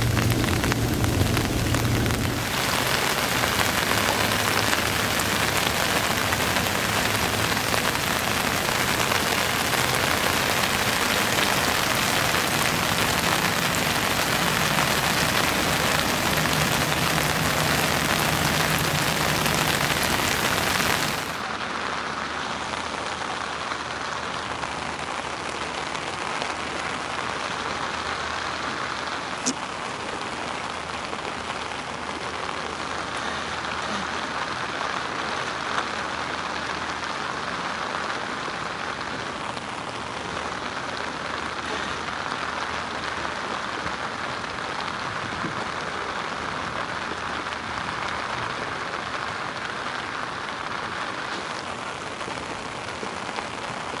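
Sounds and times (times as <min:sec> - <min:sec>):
heavy rain on river water: 0:00.0 - 0:54.0.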